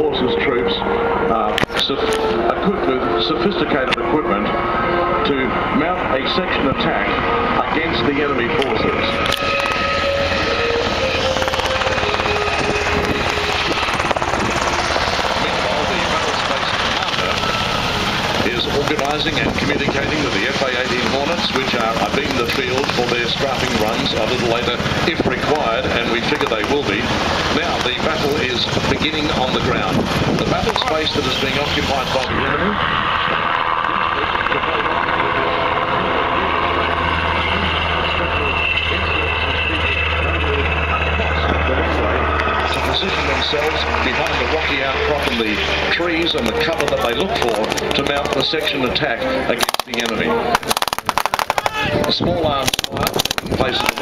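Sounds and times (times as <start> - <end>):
helicopter rotor beating: 0.0 - 54.0
turbine whine: 0.0 - 54.0.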